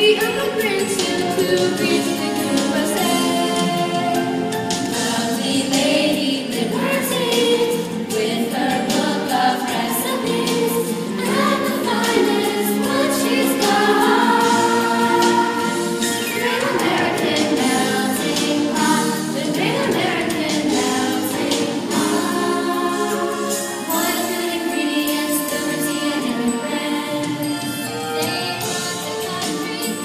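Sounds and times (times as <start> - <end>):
group of voices singing: 0.0 - 30.0
musical accompaniment: 0.0 - 30.0.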